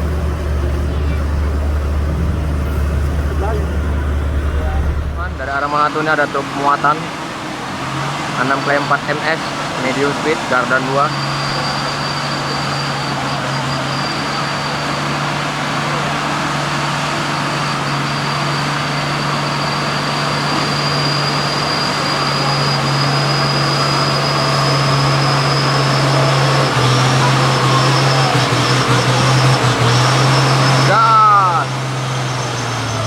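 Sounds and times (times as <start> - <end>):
truck engine pulling: 0.0 - 33.0.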